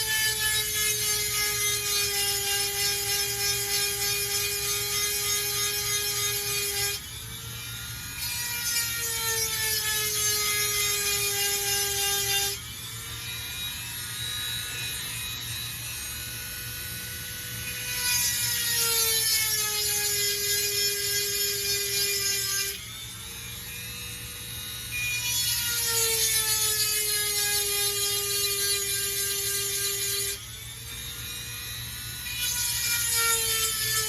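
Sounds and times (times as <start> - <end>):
rotary tool whining: 0.0 - 34.0.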